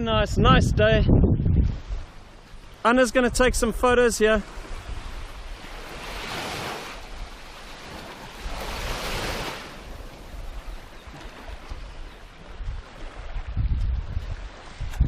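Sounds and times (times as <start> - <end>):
wind rumble on microphone: 0.0 - 15.0
small waves on sandy beach: 1.7 - 15.0.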